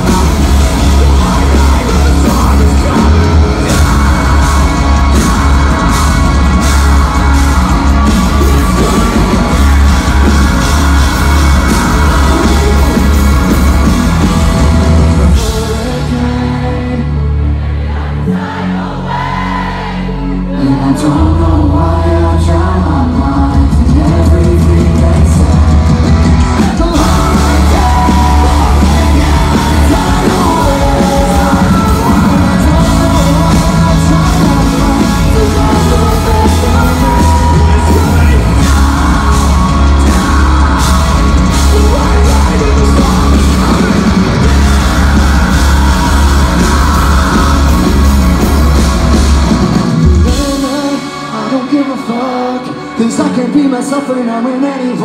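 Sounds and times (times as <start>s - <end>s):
metalcore band playing: 0.0s - 55.0s
vocalist singing and yelling: 0.0s - 55.0s.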